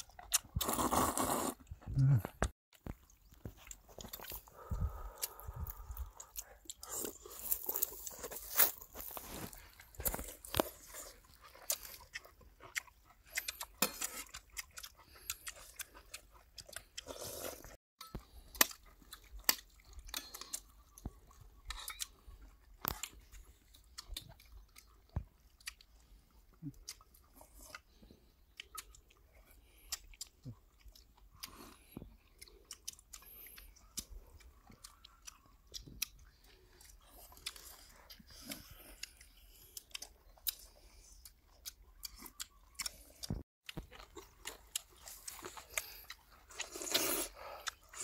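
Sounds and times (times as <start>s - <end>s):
people chewing and eating: 0.0s - 48.0s
sharp clicks and crunches: 5.1s - 26.0s, 29.8s - 48.0s.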